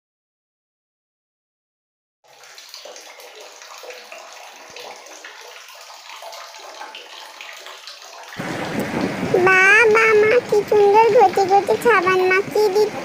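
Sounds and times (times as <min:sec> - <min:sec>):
water splashing: 0:02.3 - 0:13.0.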